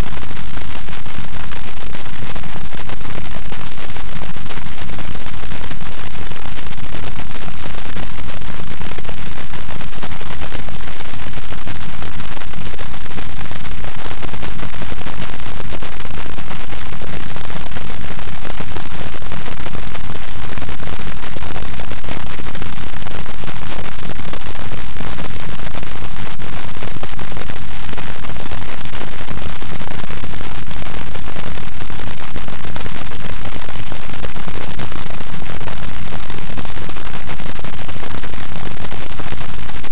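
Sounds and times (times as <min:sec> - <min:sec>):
loud crackling static noise: 0:00.0 - 0:39.9.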